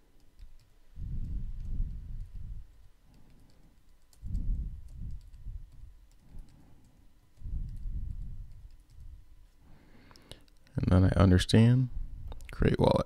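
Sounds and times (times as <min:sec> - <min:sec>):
keyboard typing: 0:00.1 - 0:10.8.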